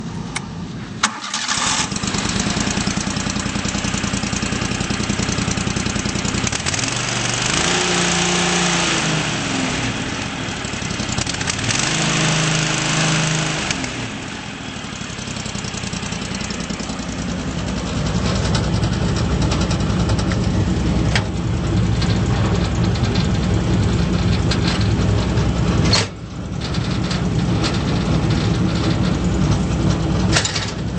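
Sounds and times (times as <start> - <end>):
brush chipper engine running: 1.0 - 30.9.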